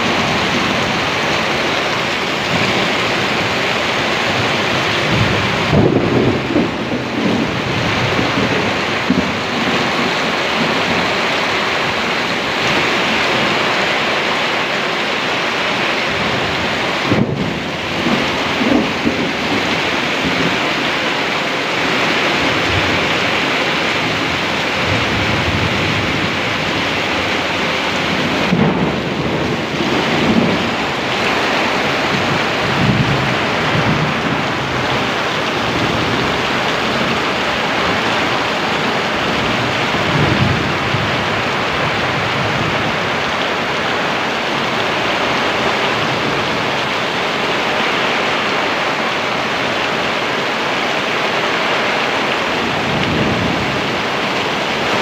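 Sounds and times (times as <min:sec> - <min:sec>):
heavy rain rushing: 0:00.0 - 0:55.0.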